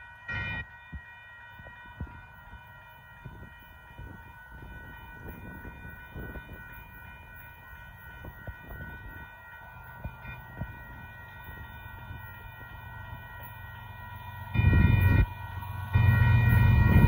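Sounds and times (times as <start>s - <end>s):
crossing warning bell ringing: 0.0s - 17.0s
freight train rumbling: 1.4s - 17.0s.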